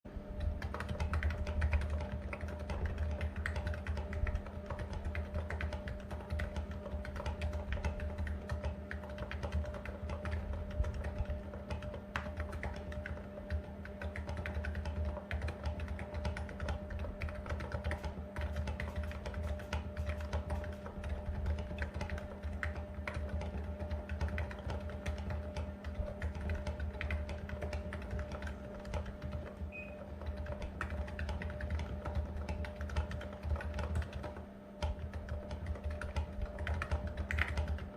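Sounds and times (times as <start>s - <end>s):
steady low hum: 0.1s - 37.9s
keyboard typing: 0.3s - 37.9s.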